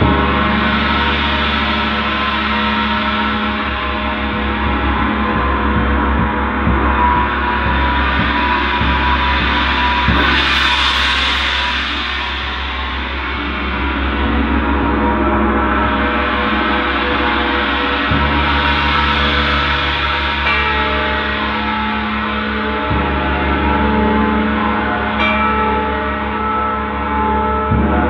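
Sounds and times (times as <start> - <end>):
gongs struck with soft mallet: 0.0 - 28.0.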